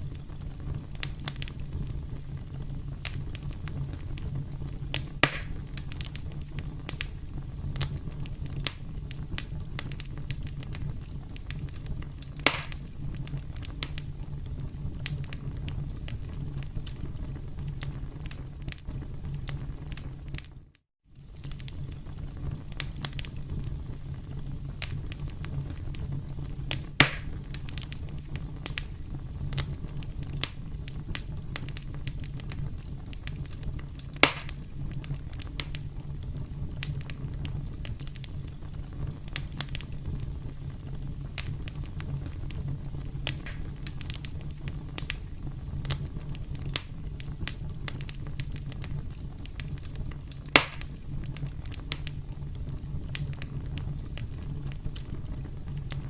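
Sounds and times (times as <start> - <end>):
campfire crackling: 0.0 - 56.0
loud pops from fire: 0.0 - 56.0.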